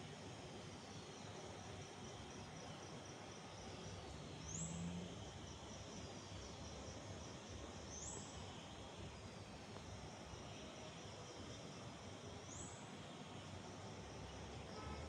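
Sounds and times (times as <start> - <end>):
insects trilling: 0.7 - 15.0.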